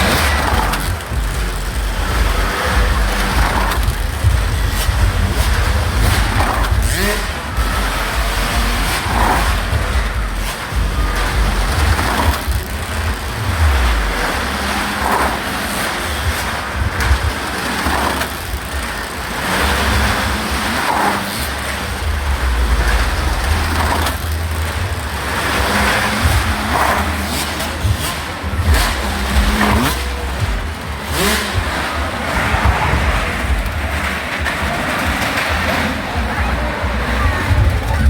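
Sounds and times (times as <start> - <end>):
motorcycle engine passing: 0.0 - 38.0.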